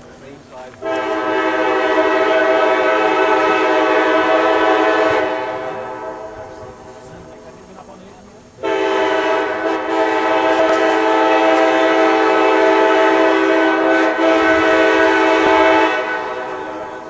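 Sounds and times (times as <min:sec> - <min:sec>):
locomotive air horn chord: 0:00.8 - 0:07.4, 0:08.6 - 0:17.0.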